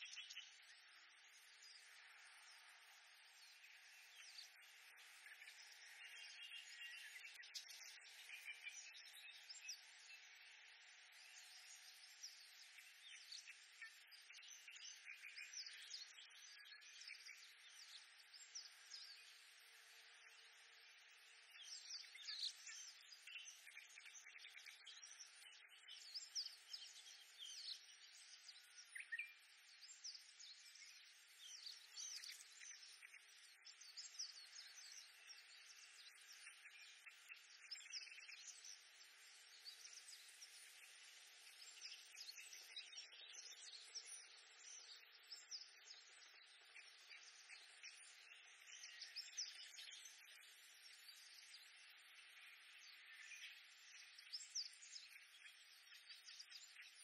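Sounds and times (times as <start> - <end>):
faint background hiss: 0.0 - 57.0.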